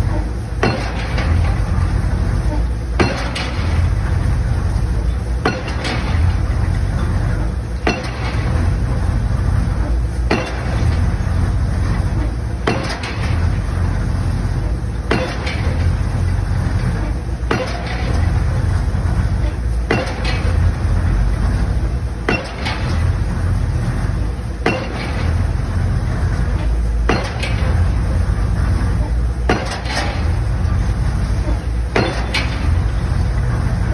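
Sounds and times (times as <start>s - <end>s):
diesel engine rumble: 0.0s - 33.9s
pile-driving hammer blows: 0.0s - 33.9s.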